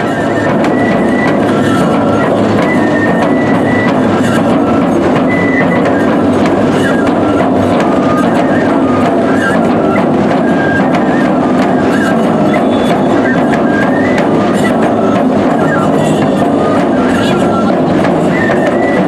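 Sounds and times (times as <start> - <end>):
bamboo flutes playing melody: 0.0 - 19.0
taiko drumming: 0.0 - 19.0.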